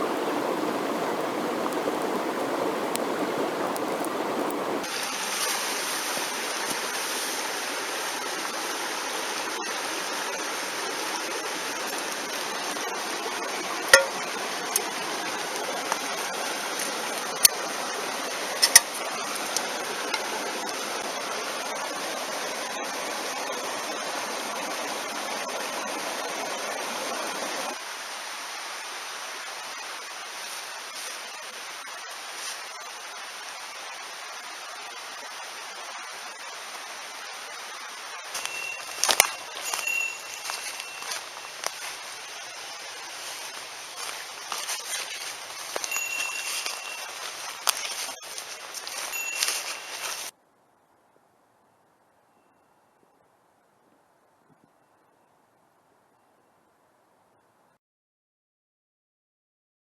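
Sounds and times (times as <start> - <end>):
mountain stream rushing: 0.0 - 50.4.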